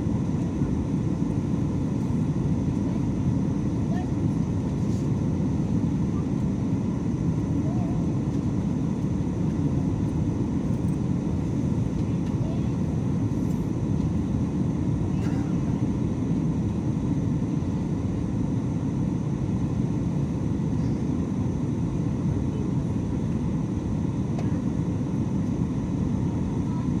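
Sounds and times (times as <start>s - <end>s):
jet engines droning: 0.0s - 27.0s.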